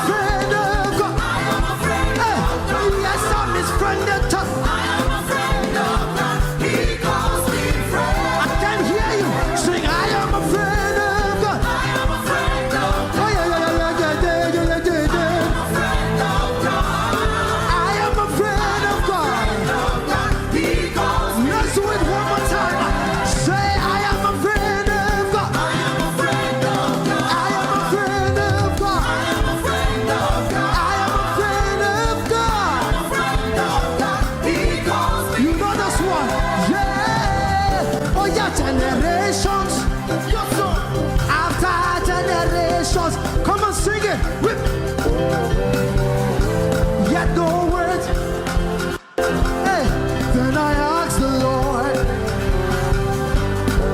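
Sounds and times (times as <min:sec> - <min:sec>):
gospel band with steady beat: 0:00.0 - 0:53.9
people singing: 0:00.0 - 0:53.9.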